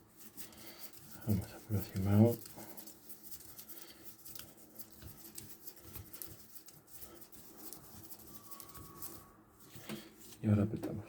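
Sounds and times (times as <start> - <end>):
light scraping of hand tool: 0.0 - 10.5.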